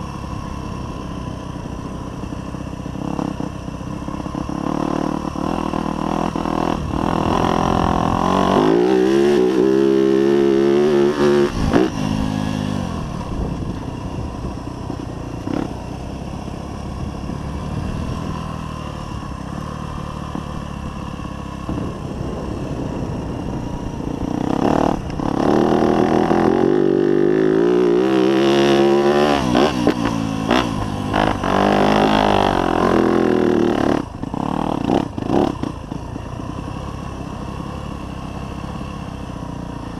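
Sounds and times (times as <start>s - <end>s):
dirt bike engine revving: 2.9s - 13.8s, 14.9s - 38.0s.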